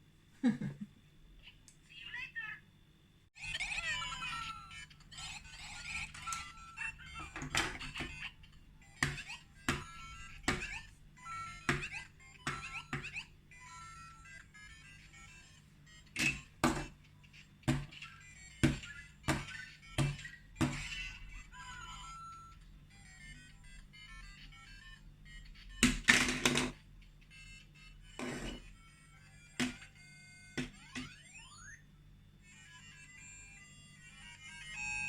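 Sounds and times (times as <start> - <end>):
electronic toy sound effects: 3.4 - 35.0
game music from toy speaker: 3.4 - 35.0.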